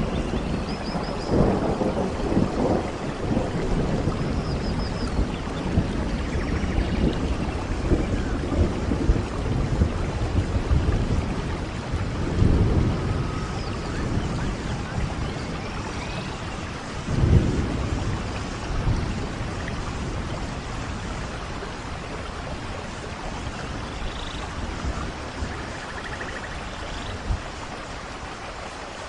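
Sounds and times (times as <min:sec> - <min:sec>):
thunder rolling: 0:00.0 - 0:26.5
steady rain: 0:00.0 - 0:29.0.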